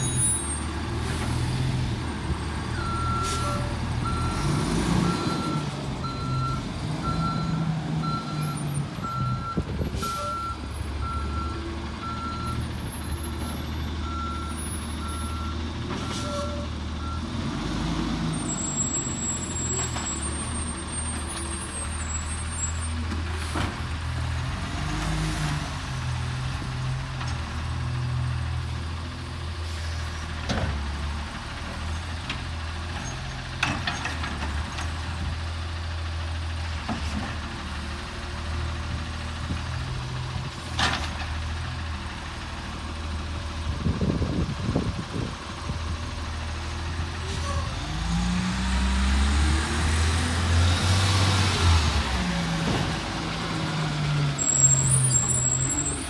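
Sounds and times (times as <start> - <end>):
garbage truck diesel engine: 0.0 - 56.0.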